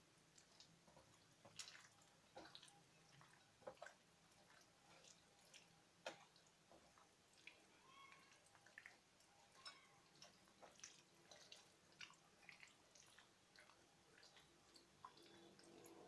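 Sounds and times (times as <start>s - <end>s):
wet squishing of meat mixing: 0.0s - 16.0s.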